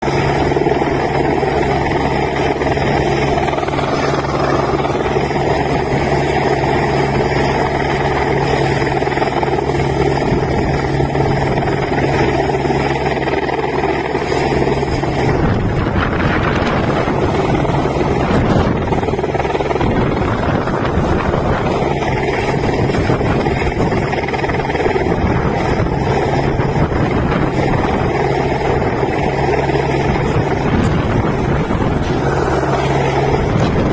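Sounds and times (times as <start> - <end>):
helicopter rotor and engine: 0.0 - 33.9.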